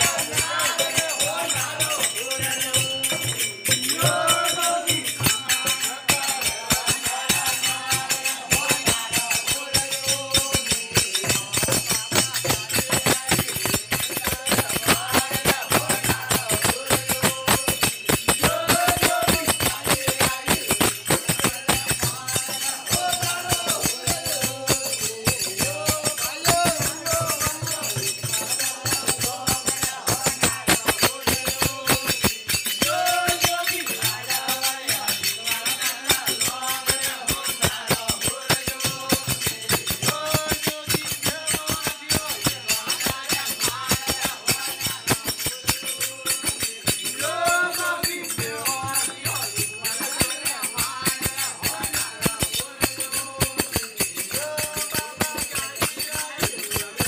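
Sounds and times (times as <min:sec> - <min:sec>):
jingling hand percussion: 0:00.0 - 0:57.0.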